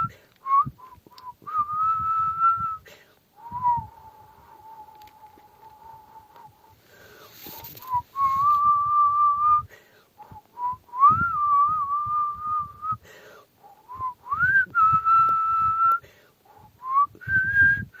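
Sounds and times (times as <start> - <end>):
high whistling in long notes: 0.0 - 2.8, 3.4 - 13.0, 13.8 - 16.0.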